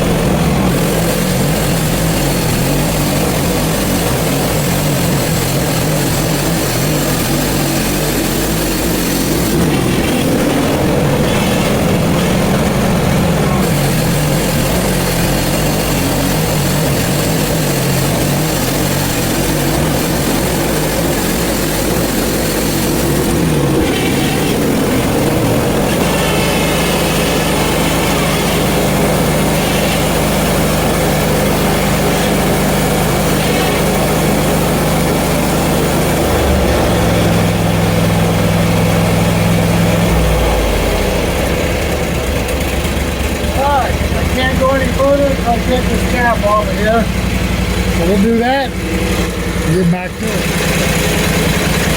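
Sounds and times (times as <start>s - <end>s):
sawmill engine sawing log: 0.0s - 51.9s.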